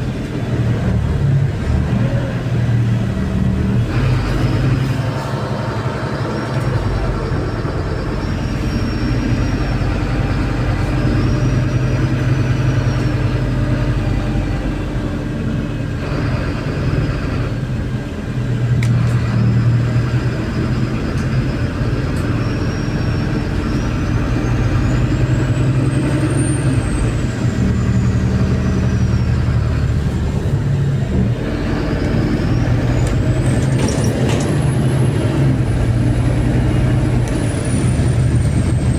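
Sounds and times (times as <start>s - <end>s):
bus engine humming: 0.0s - 38.9s
high drivetrain whine: 0.0s - 38.9s.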